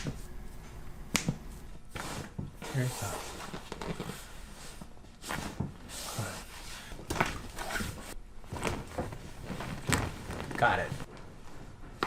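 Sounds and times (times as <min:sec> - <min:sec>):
rustling: 0:01.9 - 0:11.8.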